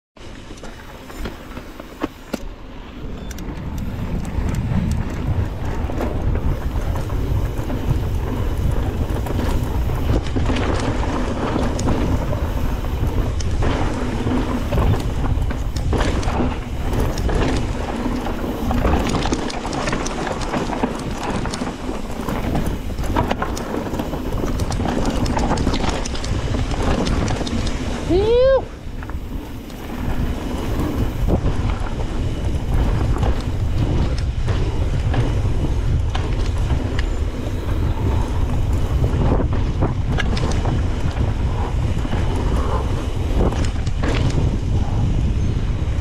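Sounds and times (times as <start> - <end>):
bike clattering and rattling: 0.2 - 46.0
wind buffeting microphone: 0.4 - 46.0.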